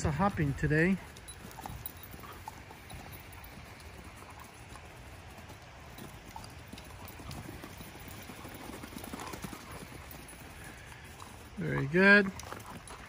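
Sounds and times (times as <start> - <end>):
dog paws thudding on turf: 0.0 - 13.0.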